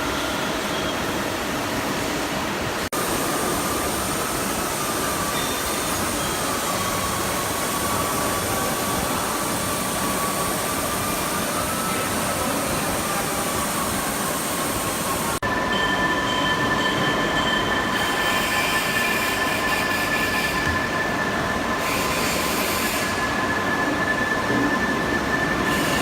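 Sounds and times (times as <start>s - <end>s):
machinery running with high whine: 0.0s - 26.0s.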